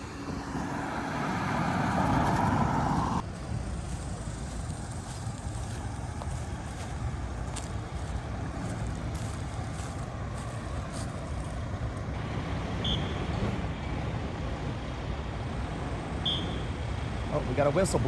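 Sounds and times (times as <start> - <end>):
large vehicle engine rumbling: 0.0 - 18.0.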